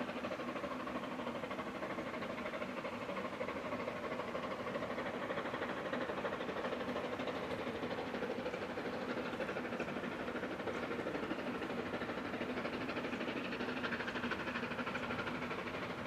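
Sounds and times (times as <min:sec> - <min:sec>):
steam locomotive exhaust beating: 0:00.0 - 0:16.0.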